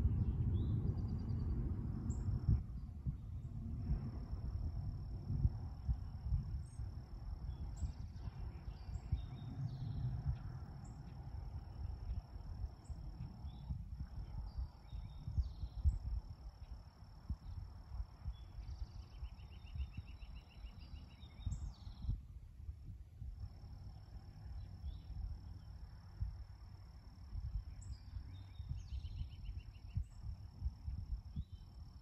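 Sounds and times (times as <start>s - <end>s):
low fluctuating rumble: 0.0s - 32.0s.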